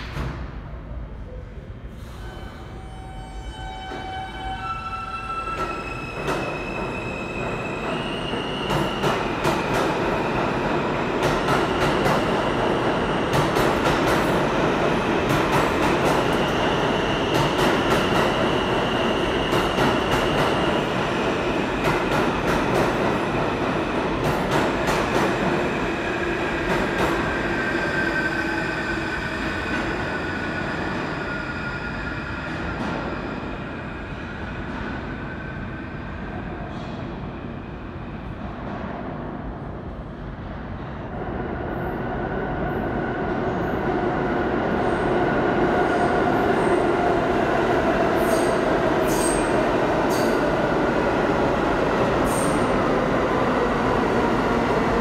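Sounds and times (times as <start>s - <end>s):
subway train motors whining: 0.0s - 55.0s.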